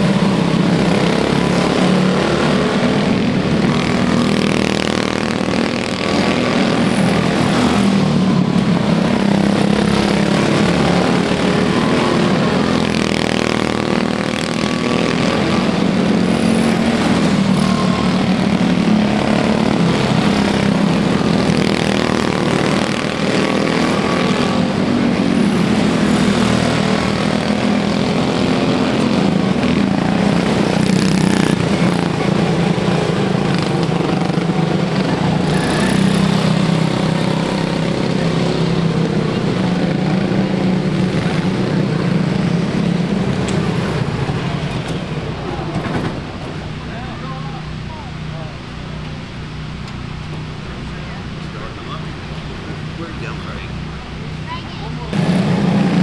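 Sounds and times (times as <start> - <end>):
race car engines droning: 0.0 - 56.0.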